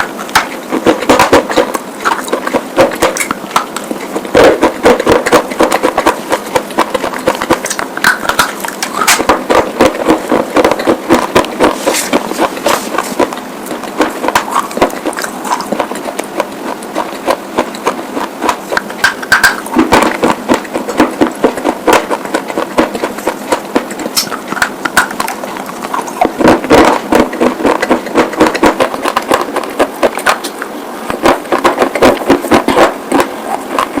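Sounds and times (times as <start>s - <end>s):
slate being bitten and chewed: 0.0s - 34.0s.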